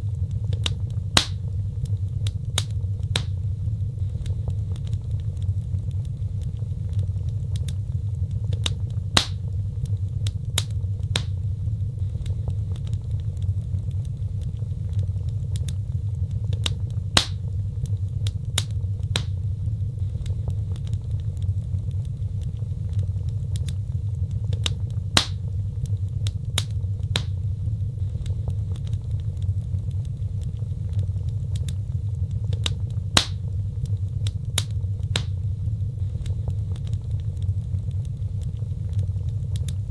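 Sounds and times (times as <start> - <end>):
fire flames rumbling: 0.0 - 39.9
loud fire pops: 0.0 - 39.9
wood fire crackling: 0.0 - 39.9.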